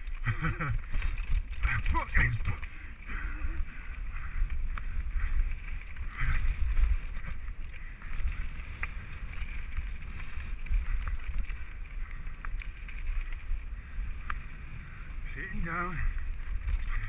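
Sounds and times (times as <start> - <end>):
bike clicks and rattles: 0.0 - 17.0
tyres on loose gravel: 0.0 - 17.0
wind buffeting microphone: 0.0 - 17.0.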